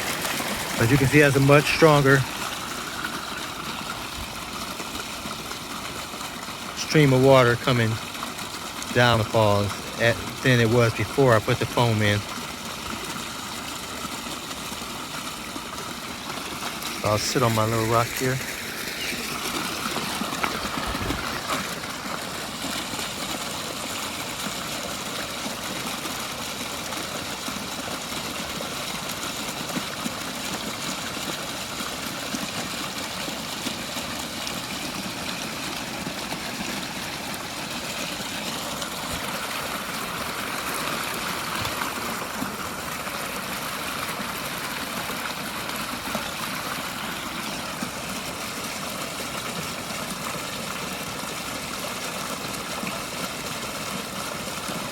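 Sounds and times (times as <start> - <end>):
water splashing down rock steps: 0.0 - 54.9.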